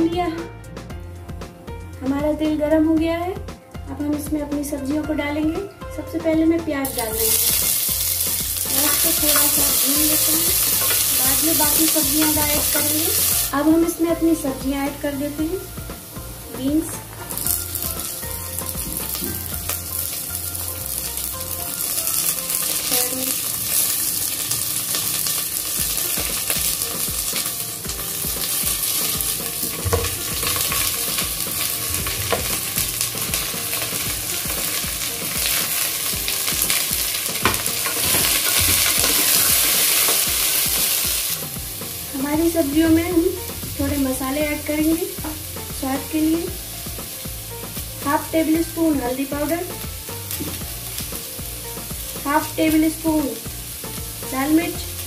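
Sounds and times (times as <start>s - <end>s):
vegetables sizzling in hot oil: 6.7s - 55.0s.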